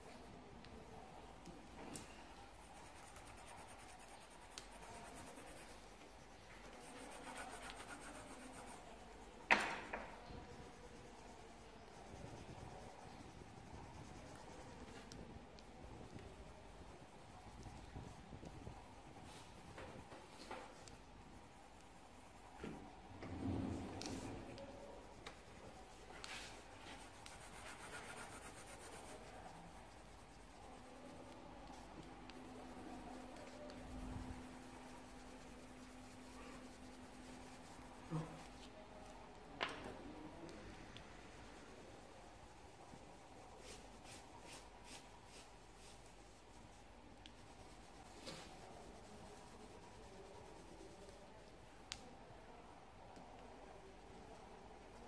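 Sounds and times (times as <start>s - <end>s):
pencil scratching on paper: 1.0s - 38.8s, 41.2s - 51.5s.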